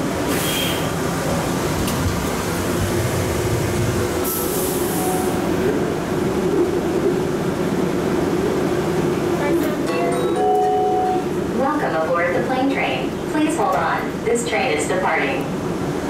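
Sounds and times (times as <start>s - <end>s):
train rumble and hum: 0.0s - 16.0s.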